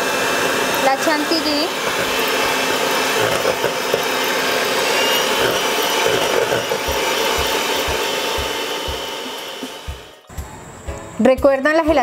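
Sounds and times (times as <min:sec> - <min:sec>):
electric hand mixer whipping cream: 0:00.0 - 0:10.2.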